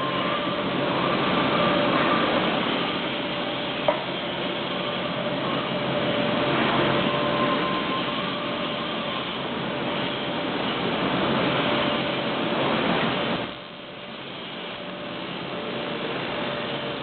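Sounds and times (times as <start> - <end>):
faint steady whine: 0.0 - 17.0
welding arc crackling: 0.0 - 17.0.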